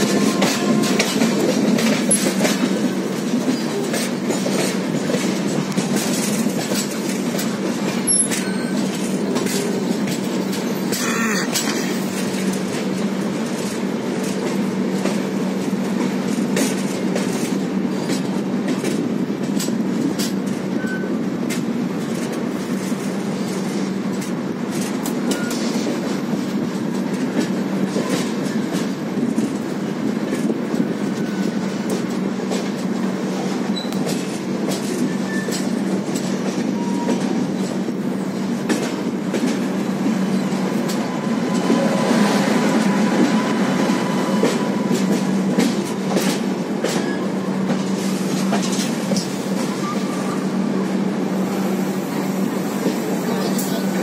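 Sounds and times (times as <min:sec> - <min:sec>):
wheels clattering over rail joints: 0:00.0 - 0:50.5
train wheels rumbling on track: 0:00.0 - 0:54.0.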